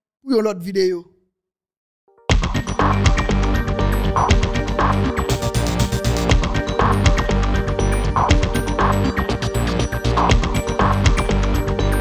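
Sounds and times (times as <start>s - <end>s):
busy music with strong bass: 2.3s - 12.0s.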